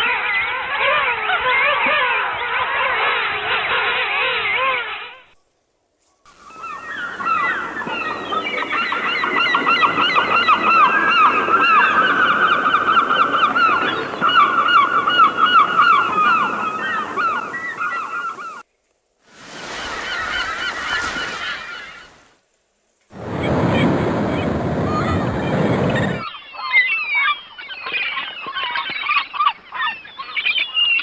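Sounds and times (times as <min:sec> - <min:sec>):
flock of birds calling: 0:00.0 - 0:05.4, 0:06.3 - 0:18.7, 0:19.4 - 0:22.4, 0:24.9 - 0:31.0.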